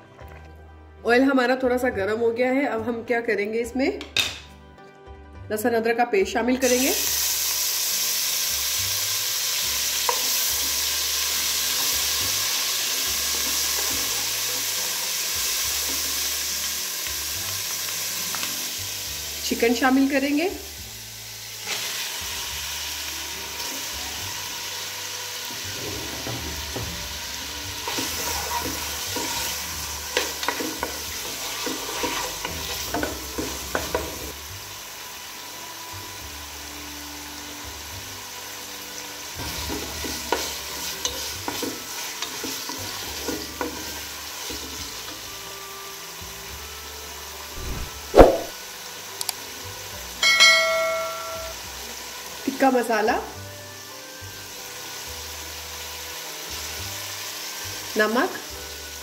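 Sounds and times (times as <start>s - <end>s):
chicken sizzling in hot oil: 6.6s - 59.0s.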